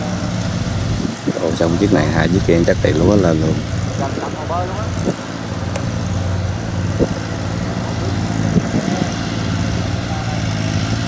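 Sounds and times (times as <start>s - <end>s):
combine harvester running: 0.0s - 11.0s
tractor engine drone: 0.0s - 11.0s.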